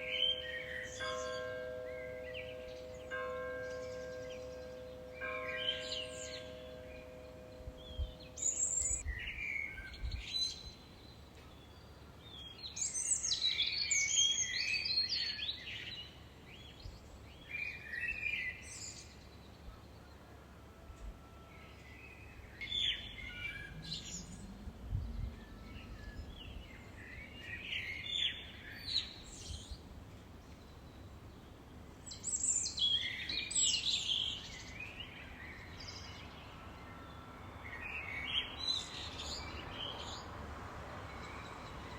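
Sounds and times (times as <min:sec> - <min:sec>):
songbirds singing: 0:00.0 - 0:20.4, 0:21.6 - 0:40.4.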